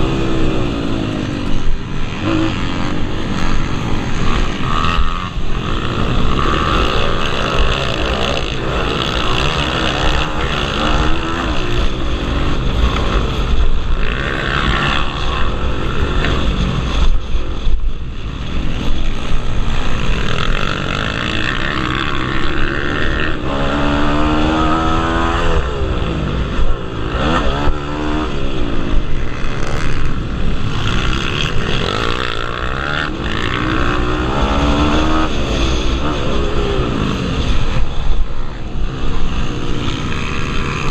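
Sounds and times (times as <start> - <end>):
close motorbike revving hard: 0.0 - 40.9
motorbike engines racing: 0.0 - 40.9.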